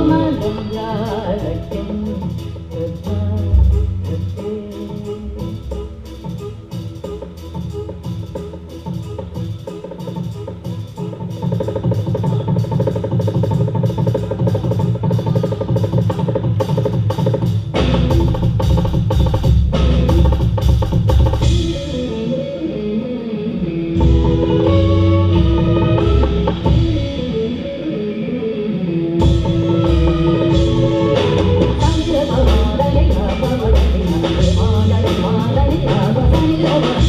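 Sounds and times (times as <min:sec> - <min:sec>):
electric guitars: 0:00.0 - 0:07.8, 0:08.8 - 0:37.0
drum kit and cymbals: 0:00.0 - 0:22.8, 0:23.9 - 0:28.0, 0:29.2 - 0:37.0
bass guitar: 0:00.0 - 0:37.0.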